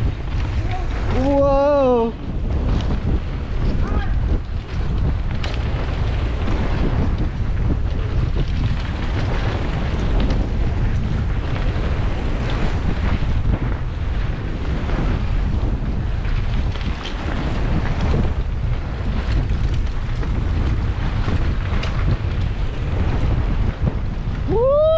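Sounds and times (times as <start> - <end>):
bike rattles and clicks: 0.0 - 24.9
wind buffeting microphone: 0.0 - 24.9.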